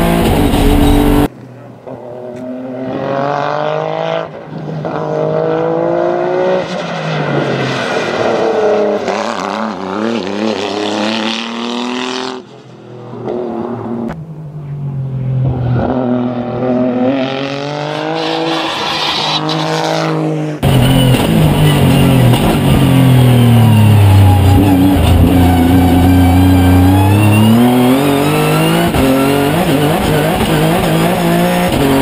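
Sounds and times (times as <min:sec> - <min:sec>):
race car engine at full throttle: 0:00.0 - 0:32.0.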